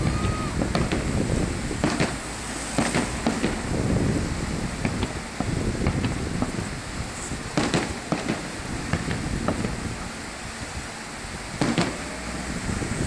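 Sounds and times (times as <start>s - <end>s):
distant fireworks bursting: 0.0s - 10.2s, 11.5s - 12.5s.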